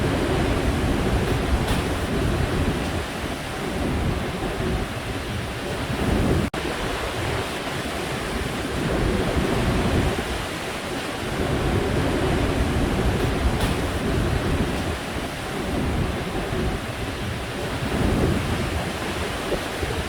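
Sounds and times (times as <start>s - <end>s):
sea surf crashing: 0.0s - 20.0s
wind buffeting microphone: 0.0s - 20.0s.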